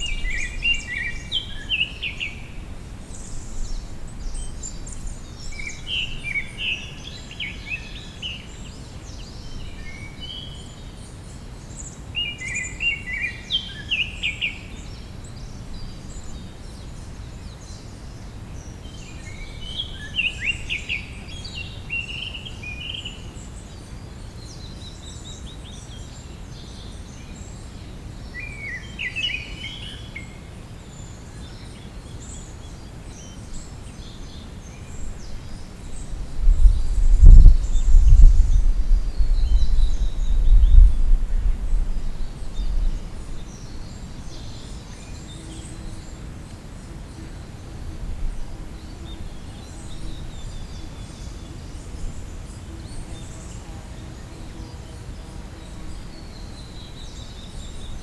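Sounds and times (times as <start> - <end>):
low background hiss: 0.0 - 58.0
songbird chirping phrases: 0.0 - 58.0.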